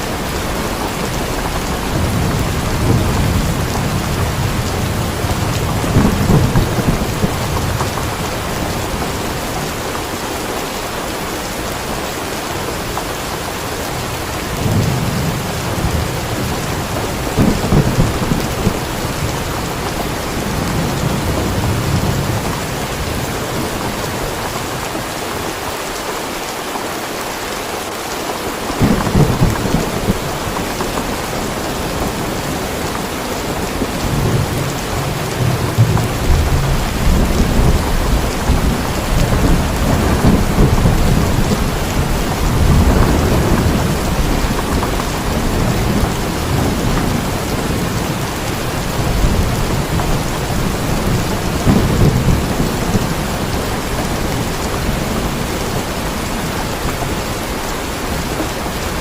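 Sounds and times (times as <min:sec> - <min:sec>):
heavy rain: 0:00.0 - 0:59.0
rolling thunder: 0:00.2 - 0:10.0, 0:13.9 - 0:24.8, 0:28.8 - 0:57.2.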